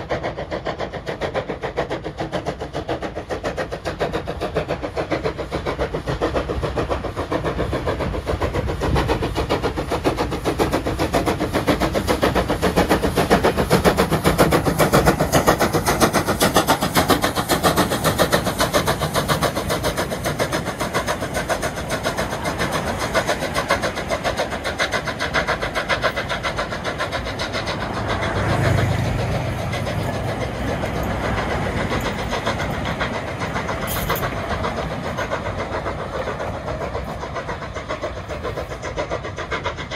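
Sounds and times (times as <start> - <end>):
carriages rolling on track: 0.0 - 39.9
steam locomotive exhaust chuffs: 0.0 - 39.9.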